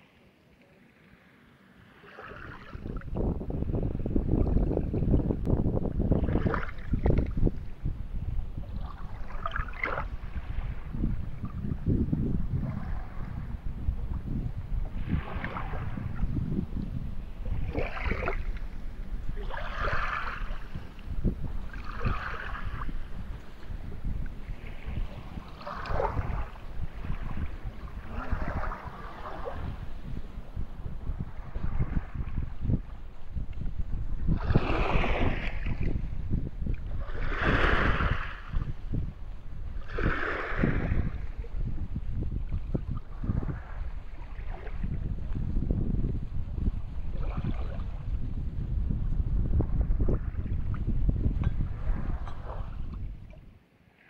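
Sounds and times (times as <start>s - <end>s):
wind rumble on microphone: 1.9s - 53.6s
water lapping against boat hull: 1.9s - 54.0s.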